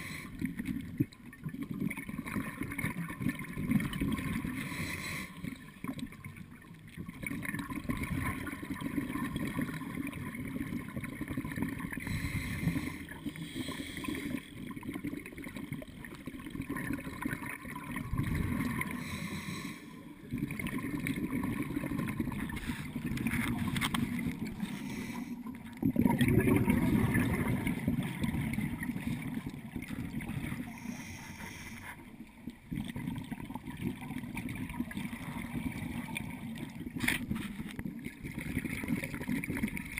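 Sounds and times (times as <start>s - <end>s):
muffled underwater rumble: 0.0s - 39.9s
regulator bubbles: 0.0s - 39.9s.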